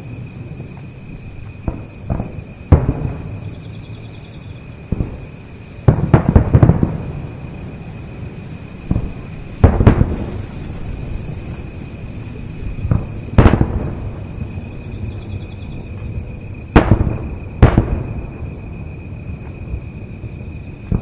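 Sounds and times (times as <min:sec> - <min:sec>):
firework shells booming: 0:00.0 - 0:21.0.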